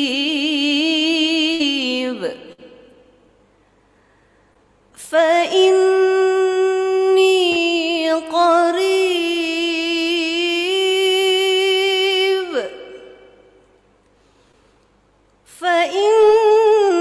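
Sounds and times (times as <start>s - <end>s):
woman reciting melodically: 0.0s - 3.2s, 4.9s - 13.8s, 15.4s - 17.0s.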